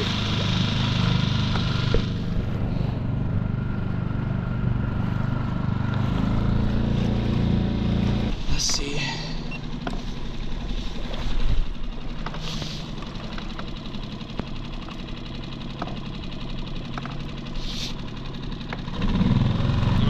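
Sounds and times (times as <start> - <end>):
outboard motor idling: 0.0 - 20.0.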